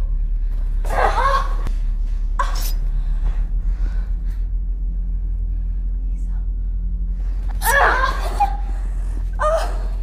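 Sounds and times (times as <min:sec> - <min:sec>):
steady low drone: 0:00.0 - 0:10.0.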